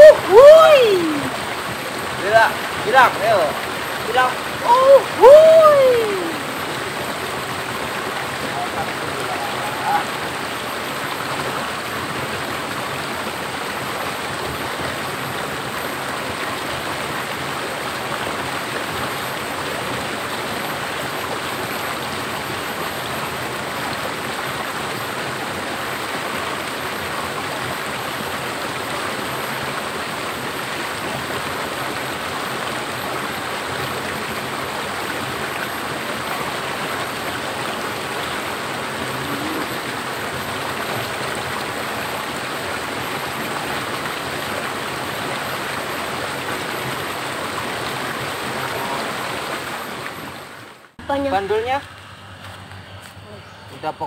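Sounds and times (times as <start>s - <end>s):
water rushing over waterfall: 0.0s - 51.0s.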